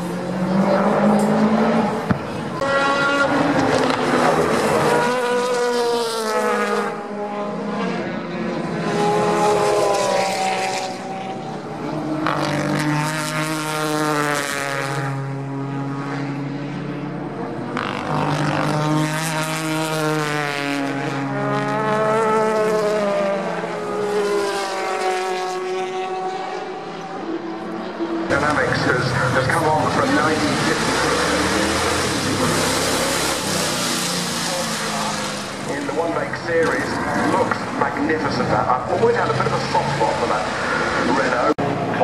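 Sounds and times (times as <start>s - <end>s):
race cars passing at speed: 0.0s - 42.0s.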